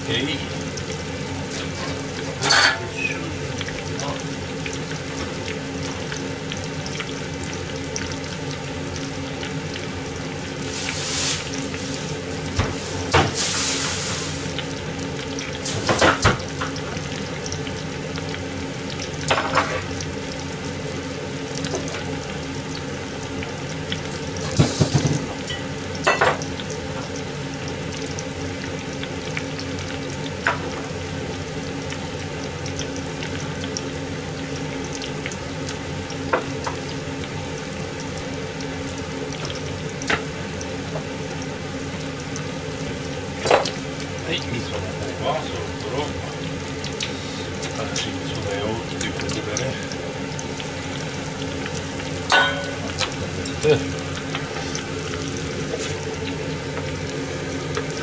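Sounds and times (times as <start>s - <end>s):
oil deep-frying sizzle: 0.0s - 58.0s.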